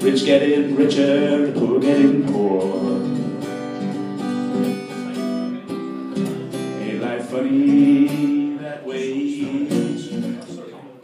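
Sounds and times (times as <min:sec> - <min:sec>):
person singing: 0:00.0 - 0:04.1, 0:04.7 - 0:10.5
acoustic guitar strumming: 0:00.0 - 0:10.9.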